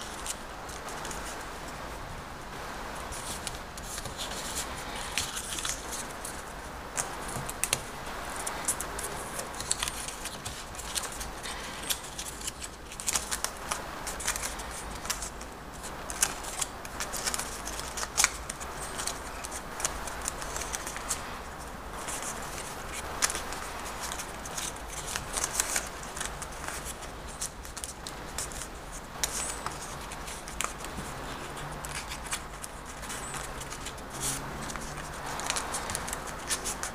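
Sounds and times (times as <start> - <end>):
paper bill crinkling: 3.0 - 36.9.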